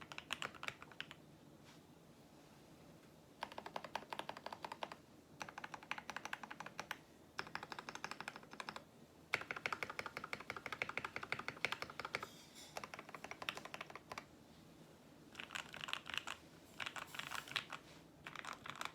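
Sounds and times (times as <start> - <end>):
fast typing on mechanical keyboard: 0.0 - 1.2, 3.4 - 14.3, 15.3 - 18.9.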